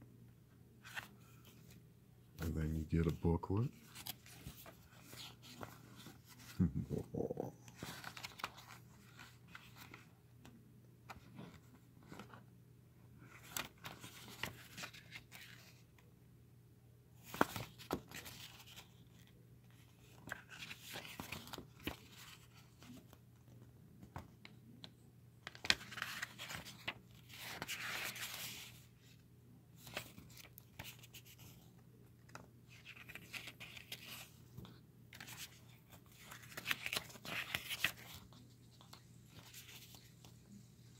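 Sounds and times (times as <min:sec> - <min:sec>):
paper pages rustling: 0:00.8 - 0:01.8, 0:02.4 - 0:06.7, 0:07.7 - 0:12.5, 0:13.2 - 0:16.1, 0:17.2 - 0:40.9.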